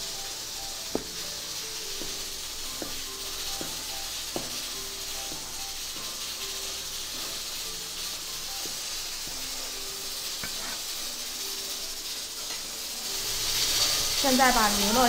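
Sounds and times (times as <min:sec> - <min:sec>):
pressure cooker hissing: 0:00.0 - 0:15.0.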